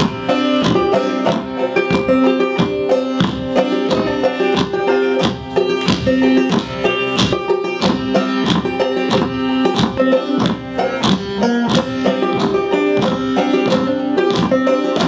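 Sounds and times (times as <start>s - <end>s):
banjo: 0.0s - 15.0s
mandolin: 0.0s - 15.0s
upright bass plucked: 0.0s - 15.0s.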